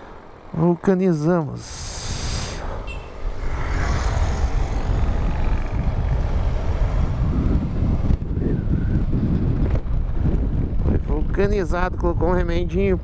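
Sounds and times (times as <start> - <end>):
motorcycle engine rumbling: 1.5 - 13.0
wind rush on microphone: 1.5 - 13.0.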